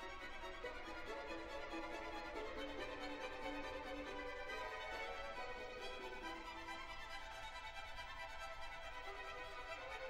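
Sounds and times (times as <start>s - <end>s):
violin: 0.0s - 10.0s.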